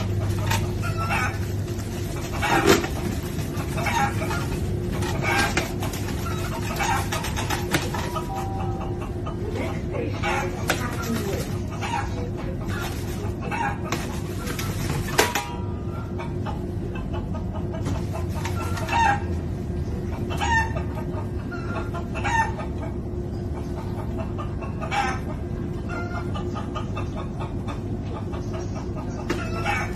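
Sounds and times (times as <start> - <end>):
train rumble: 0.0 - 29.9.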